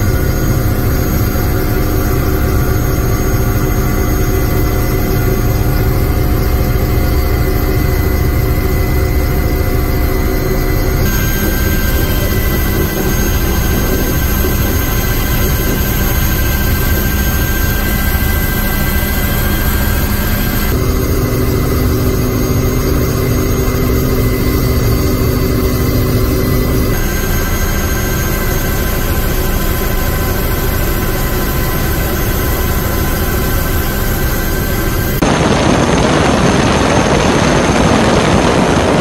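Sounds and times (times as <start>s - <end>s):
helicopter turbine and rotor: 0.0s - 39.0s.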